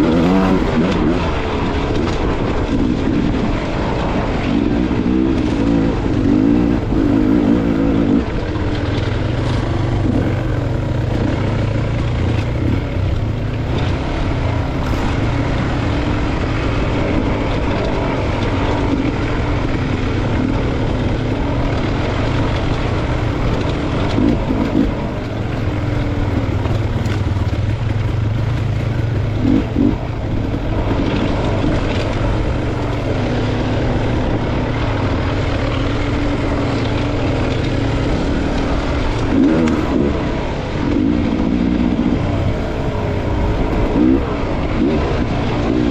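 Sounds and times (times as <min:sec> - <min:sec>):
dirt bike engine: 0:00.0 - 0:45.9.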